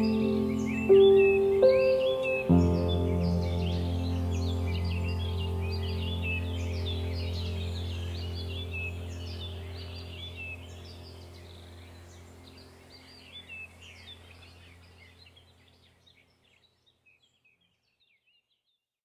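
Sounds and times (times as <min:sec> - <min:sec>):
low steady drone: 0:00.0 - 0:15.6
birds chirping and singing: 0:00.0 - 0:18.6.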